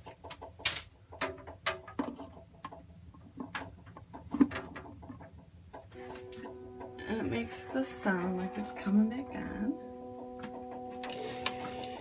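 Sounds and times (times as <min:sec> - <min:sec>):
water heater ticking and knocking: 0:00.0 - 0:11.7.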